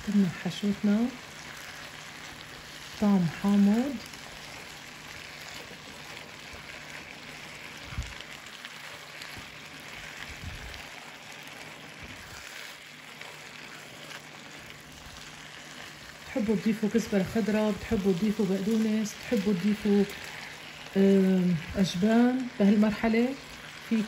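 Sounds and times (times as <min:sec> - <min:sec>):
food sizzling in a frying pan: 0:00.0 - 0:24.0.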